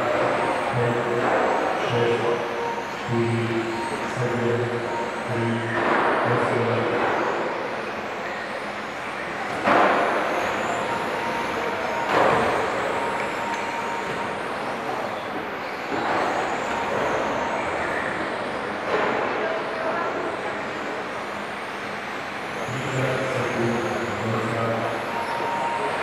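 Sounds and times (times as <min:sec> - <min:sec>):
high whines of passing cars: 0:00.0 - 0:26.0.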